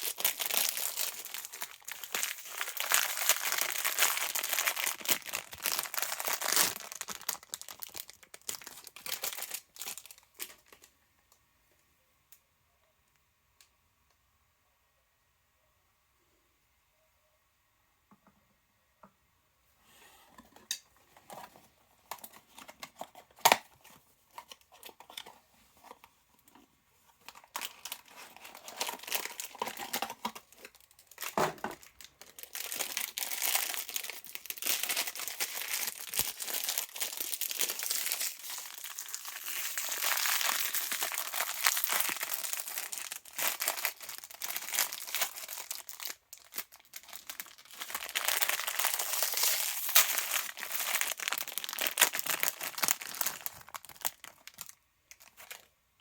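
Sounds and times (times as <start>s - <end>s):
plastic packaging crinkling and tearing: 0.0s - 10.9s, 21.2s - 55.7s.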